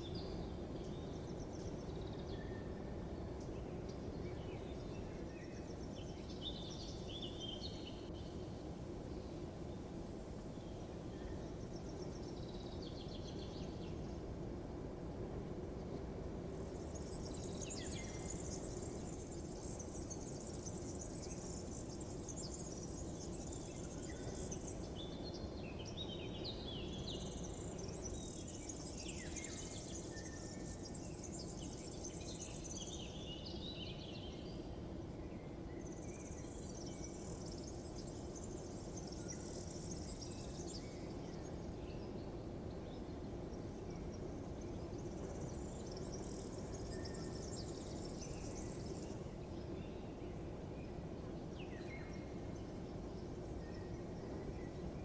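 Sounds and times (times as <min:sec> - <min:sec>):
low background hum: 0:00.0 - 0:55.0
small birds chirping: 0:00.0 - 0:55.0.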